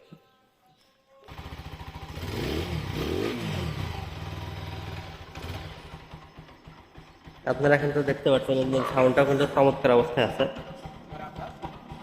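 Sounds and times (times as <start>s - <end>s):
motorcycle engine starting and revving: 1.2s - 12.0s
motorcycle engine idling: 1.3s - 12.0s.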